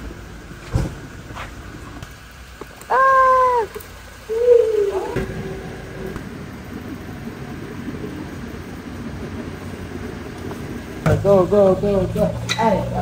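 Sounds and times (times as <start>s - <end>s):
bicycle rolling over brick pavers: 0.0s - 13.0s.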